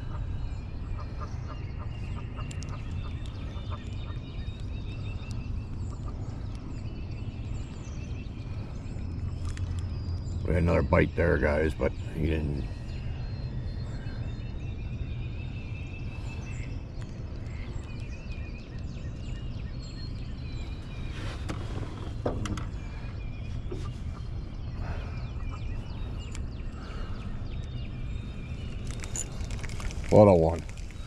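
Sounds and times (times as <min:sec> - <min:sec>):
steady low rumble: 0:00.0 - 0:21.2, 0:22.1 - 0:31.0
birds calling: 0:00.0 - 0:31.0.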